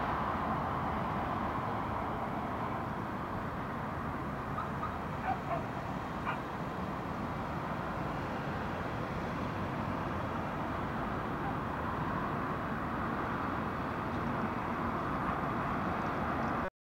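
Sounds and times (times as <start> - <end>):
distant city traffic: 0.0 - 16.7.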